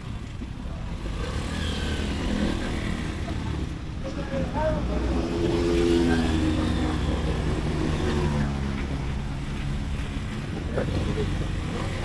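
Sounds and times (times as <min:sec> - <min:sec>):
city traffic: 0:00.0 - 0:12.0
wind and road noise: 0:00.0 - 0:12.0.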